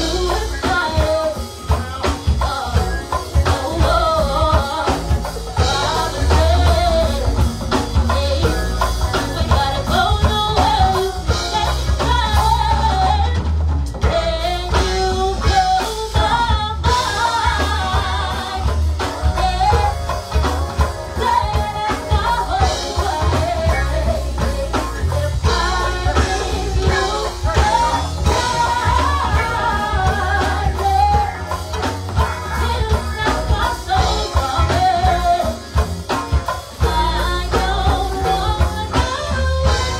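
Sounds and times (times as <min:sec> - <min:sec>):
congas: 0:00.0 - 0:39.9
drum kit: 0:00.0 - 0:39.9
heavy bass line: 0:00.0 - 0:39.9
woman singing: 0:00.0 - 0:39.9.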